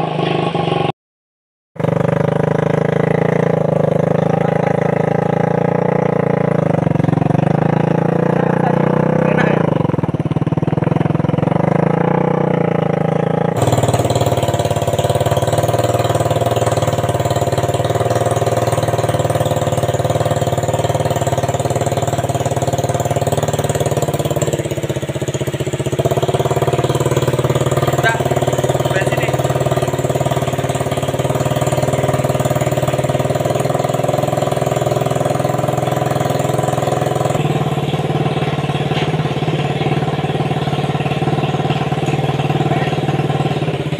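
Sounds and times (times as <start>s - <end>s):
motorcycle engine running: 0.0s - 0.9s, 1.8s - 43.9s.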